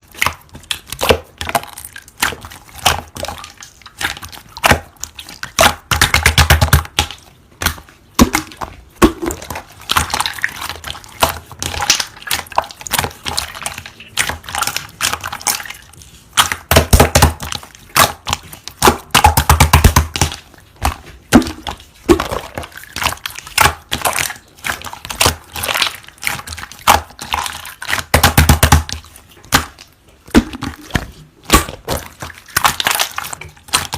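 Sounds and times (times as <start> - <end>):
slime clicking and crackling: 0.0 - 33.9.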